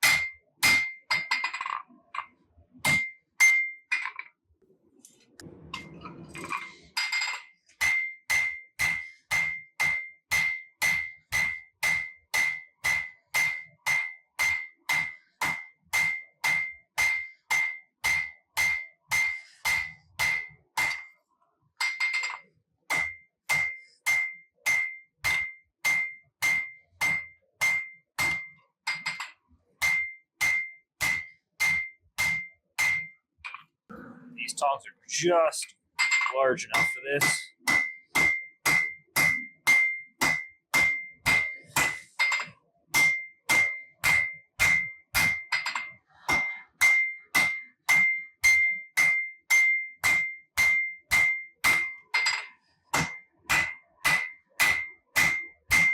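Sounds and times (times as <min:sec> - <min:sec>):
hammer ringing on anvil: 0:00.0 - 0:01.4, 0:02.9 - 0:03.9, 0:07.2 - 0:21.1, 0:21.8 - 0:33.2, 0:36.0 - 0:55.9.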